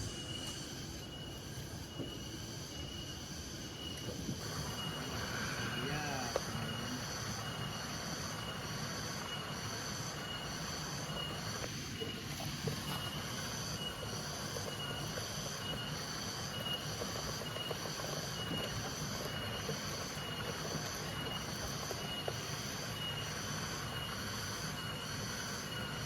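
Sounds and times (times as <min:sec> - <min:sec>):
insects buzzing whine: 0:00.0 - 0:26.0
steady background hiss: 0:00.0 - 0:26.0.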